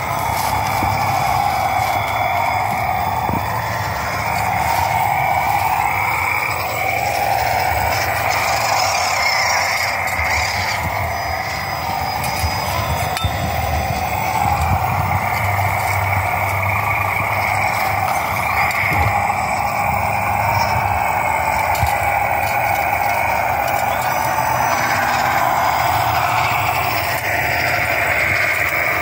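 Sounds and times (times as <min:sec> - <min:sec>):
rc truck motor whining: 0:00.0 - 0:29.0.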